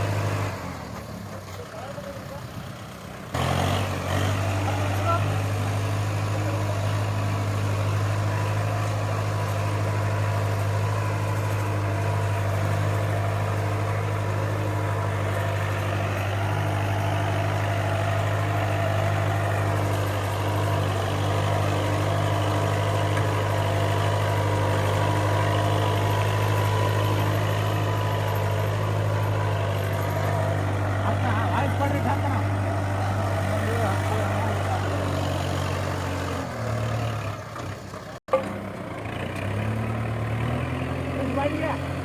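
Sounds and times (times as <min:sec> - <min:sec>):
tractor diesel engine idling: 0:00.0 - 0:42.0.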